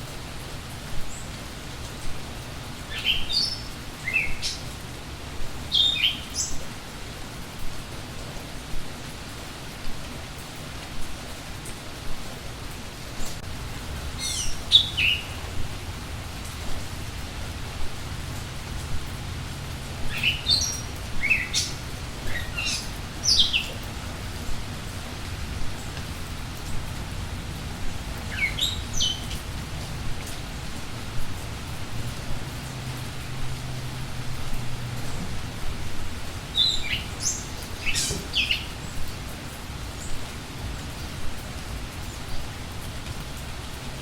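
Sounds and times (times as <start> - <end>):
steady rain falling: 0.0 - 44.0
songbirds chirping: 0.1 - 11.0, 11.7 - 43.7.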